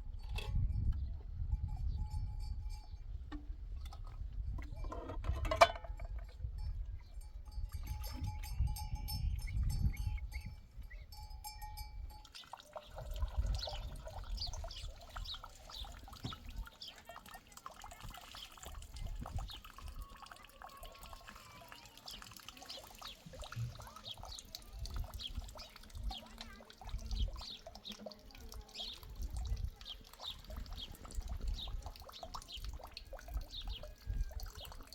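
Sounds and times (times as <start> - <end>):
animal bells clinking: 0.0 - 34.9.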